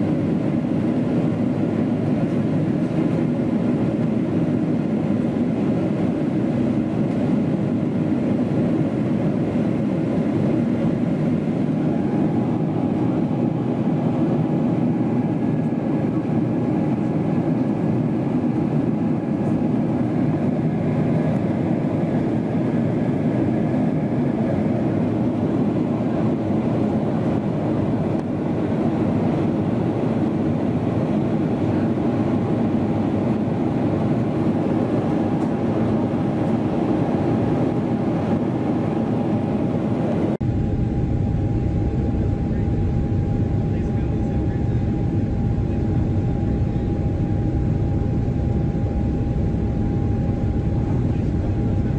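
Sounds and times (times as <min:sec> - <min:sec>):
airplane cabin roar: 0:00.0 - 0:51.9.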